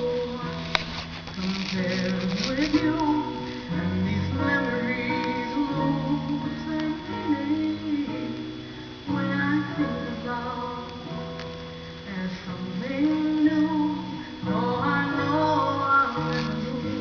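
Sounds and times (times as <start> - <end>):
person singing: 0.0 - 11.4, 12.0 - 17.0
guitar chords: 0.0 - 17.0.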